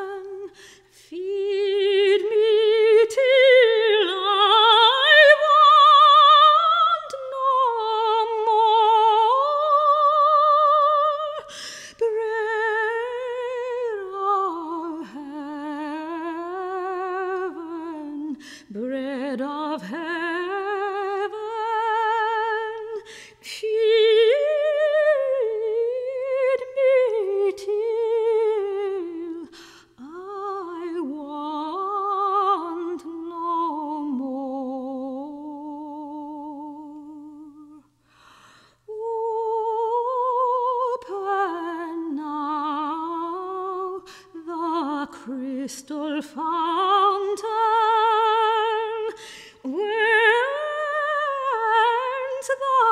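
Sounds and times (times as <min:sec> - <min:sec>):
soprano singing: 0:00.0 - 0:38.0, 0:38.9 - 0:52.9.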